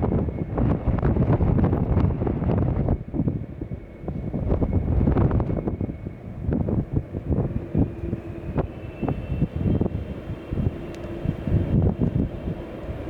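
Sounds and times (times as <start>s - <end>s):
jet engines rumbling: 0.0s - 13.0s
wind buffeting microphone: 0.0s - 13.0s.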